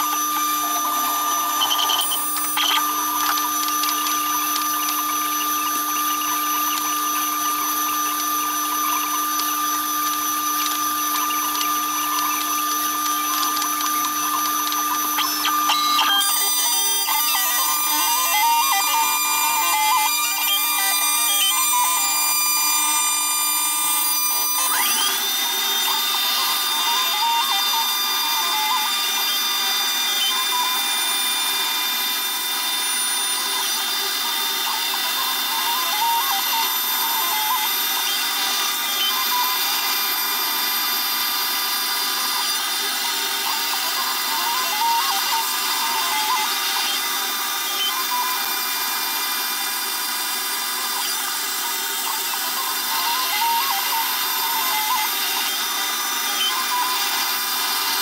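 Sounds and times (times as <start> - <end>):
cnc router high whine: 0.0 - 58.0
shop vacuum: 0.0 - 58.0.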